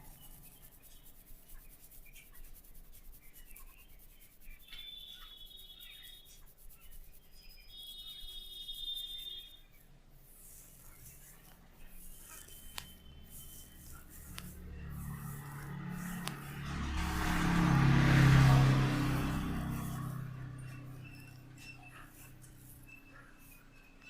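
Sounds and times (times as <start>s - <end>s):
hands rubbing scalp and hair: 0.0s - 24.0s.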